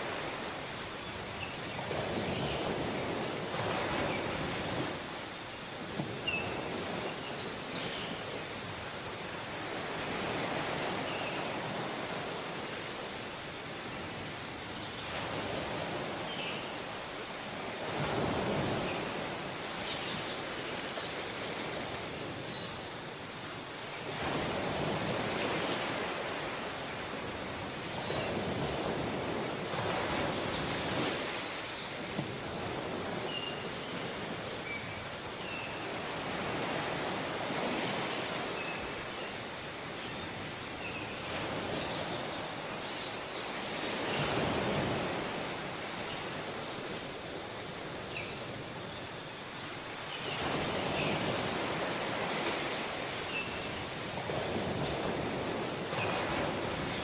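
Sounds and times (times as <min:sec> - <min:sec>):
surf washing onto beach: 0:00.0 - 0:14.4, 0:15.0 - 0:57.0.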